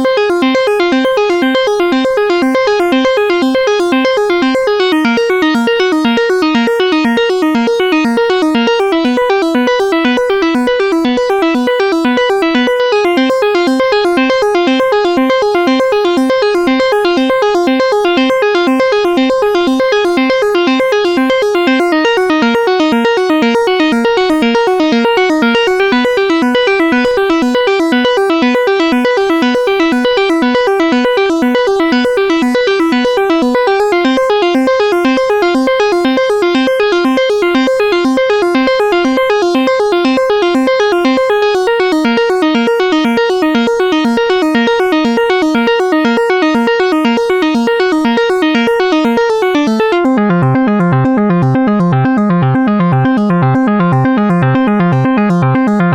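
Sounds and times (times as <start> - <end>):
arpeggiated keyboard notes: 0.0 - 55.9.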